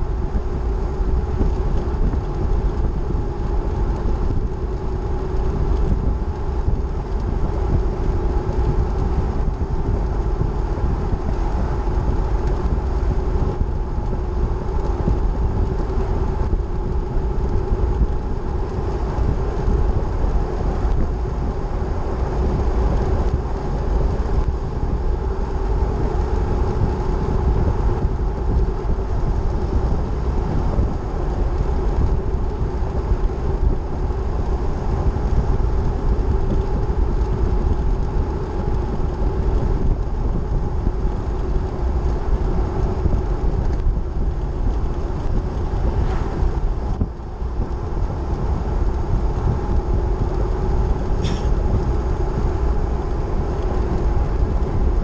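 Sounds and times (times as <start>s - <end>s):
vehicle road rumble: 0.0s - 55.0s.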